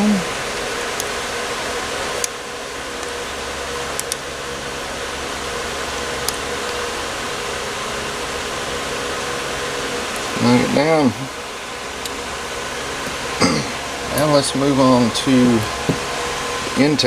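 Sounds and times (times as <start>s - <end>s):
fan-like hiss: 0.0s - 17.0s.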